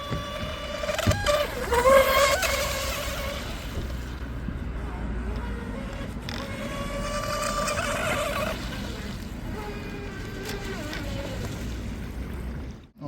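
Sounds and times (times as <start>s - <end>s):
electric boat motor whining: 0.0s - 12.8s.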